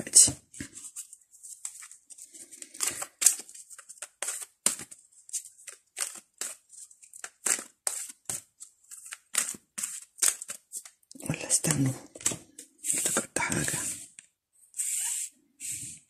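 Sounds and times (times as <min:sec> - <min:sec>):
cards being shuffled: 0:00.2 - 0:14.2.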